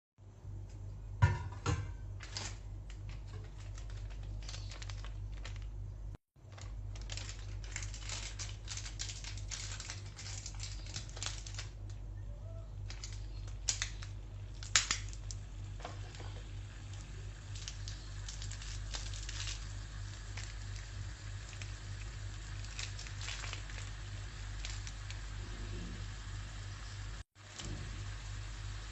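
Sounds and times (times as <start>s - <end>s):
low electrical hum: 0.2s - 28.9s
crinkling and rustling: 2.1s - 26.2s.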